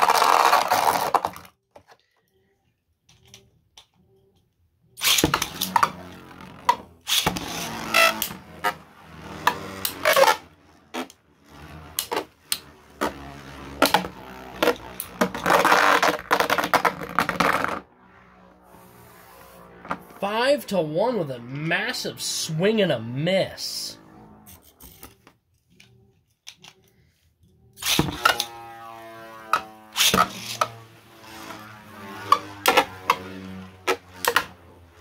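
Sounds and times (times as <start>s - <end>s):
spinning tops whirring and scraping: 0.0s - 1.5s, 5.0s - 25.3s, 27.7s - 35.0s.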